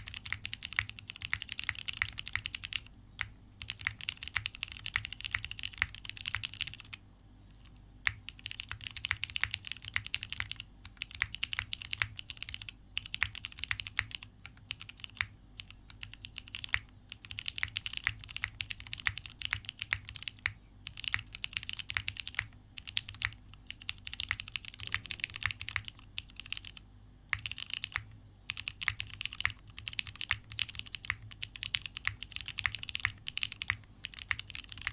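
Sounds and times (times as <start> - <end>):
mechanical keyboard typing: 0.0 - 7.0, 8.0 - 34.9.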